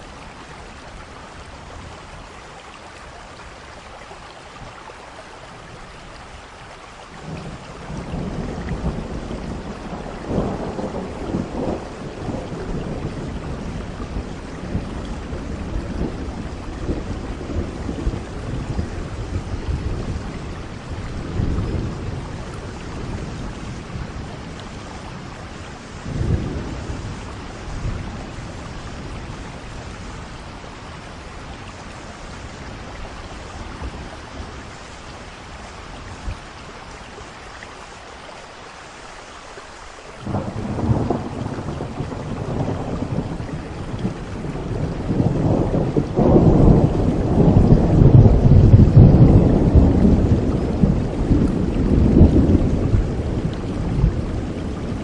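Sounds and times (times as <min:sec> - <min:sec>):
steady rain: 0:00.0 - 0:55.0
thunder rumbling: 0:07.2 - 0:36.5, 0:40.2 - 0:55.0.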